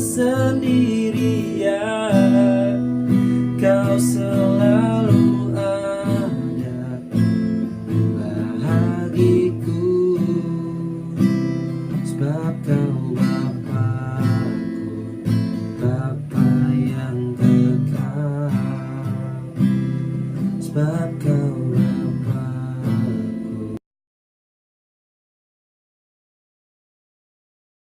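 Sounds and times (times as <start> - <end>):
acoustic guitar strummed: 0.0 - 23.8.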